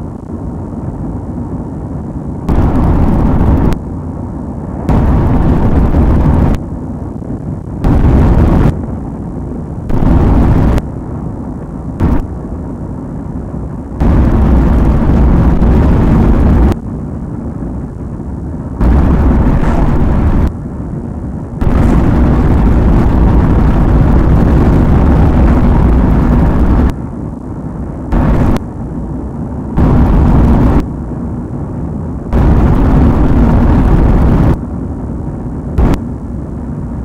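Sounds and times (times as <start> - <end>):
loud rumbling noise: 0.0 - 37.0.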